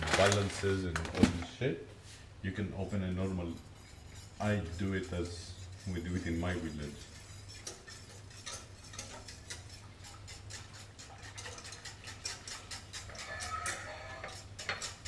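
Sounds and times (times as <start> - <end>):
utensil stirring sauce in saucepan: 2.6 - 15.0.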